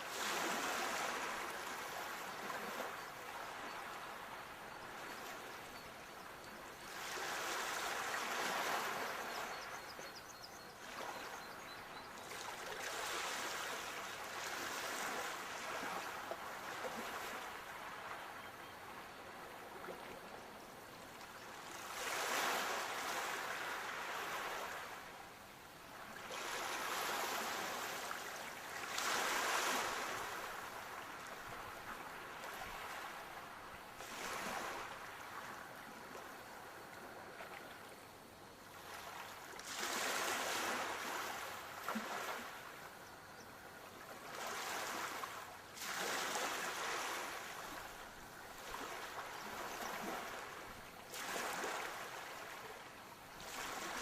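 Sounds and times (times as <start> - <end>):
sea waves breaking on shore: 0.0 - 5.6, 6.8 - 9.7, 12.3 - 18.4, 21.4 - 25.2, 25.9 - 37.7, 38.7 - 42.9, 44.1 - 54.0.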